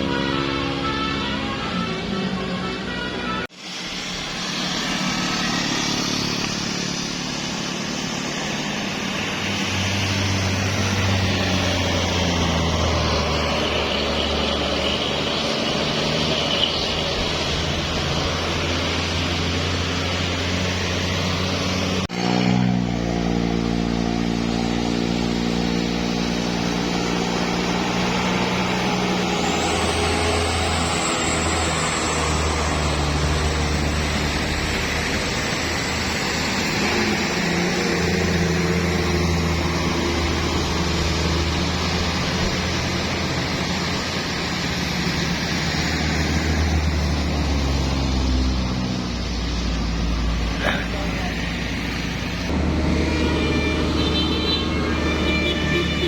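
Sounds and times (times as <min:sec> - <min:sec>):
vehicle engines climbing hill: 0:03.5 - 0:56.0.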